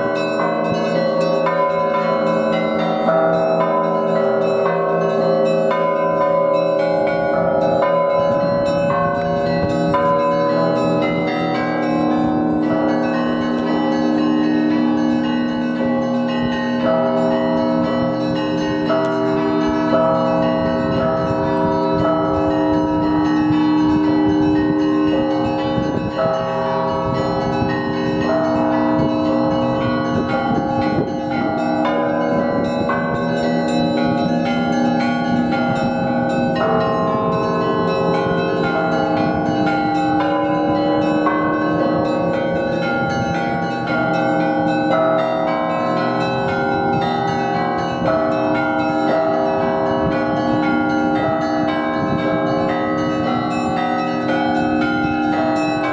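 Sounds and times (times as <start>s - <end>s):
church bells pealing: 0.0s - 55.9s.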